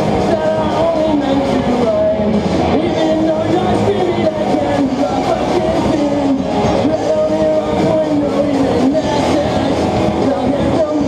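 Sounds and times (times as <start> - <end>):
amplified electric guitars: 0.0 - 11.0
drum kit: 0.0 - 11.0.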